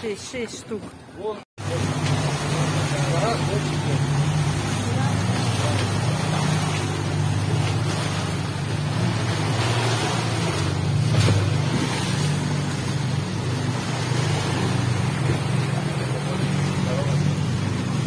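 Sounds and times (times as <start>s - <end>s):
outboard motor running: 0.0s - 18.0s
wind and water rushing: 0.0s - 18.0s.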